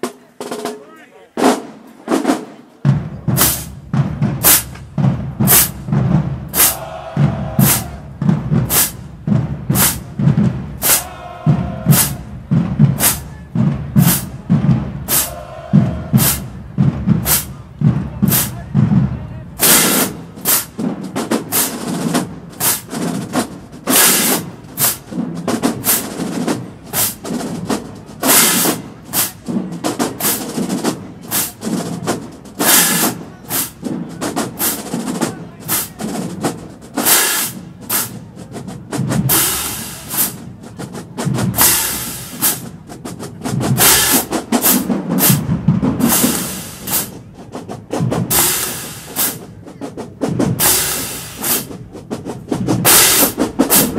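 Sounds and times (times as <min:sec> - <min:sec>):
snare drums: 0:00.0 - 0:53.9
bass drums: 0:02.8 - 0:53.9.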